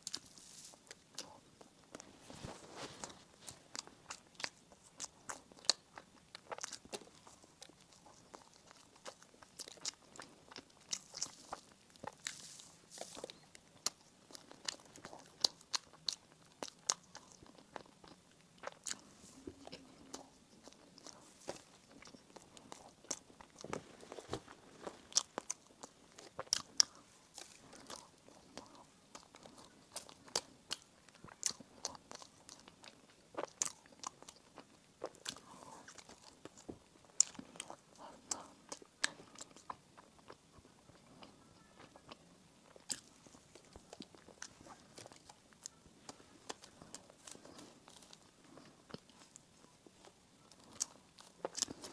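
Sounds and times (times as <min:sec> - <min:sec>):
person chewing baked goods: 0:00.0 - 0:51.9.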